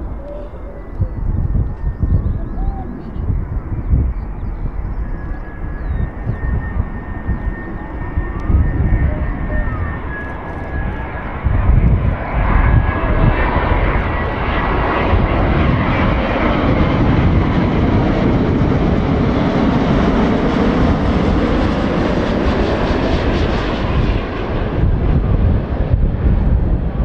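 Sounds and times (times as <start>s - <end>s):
jet airliner rumble flying past: 0.0s - 27.0s.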